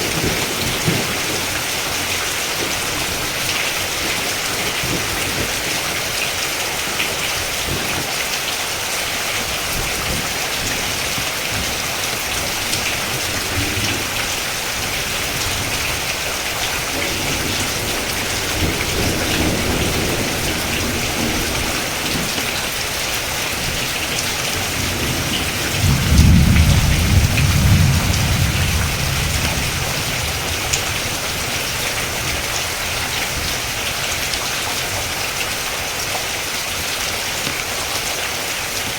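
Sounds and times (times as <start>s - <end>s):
rolling thunder: 0.0s - 8.1s, 9.4s - 35.4s
steady rain: 0.0s - 38.9s.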